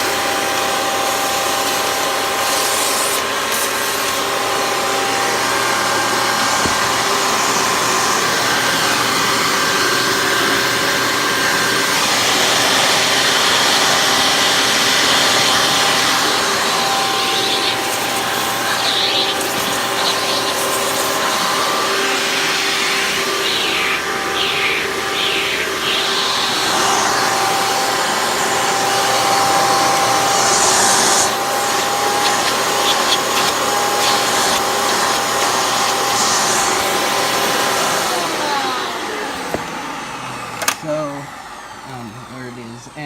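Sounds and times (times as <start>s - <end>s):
vacuum cleaner motor whine: 0.0s - 43.0s.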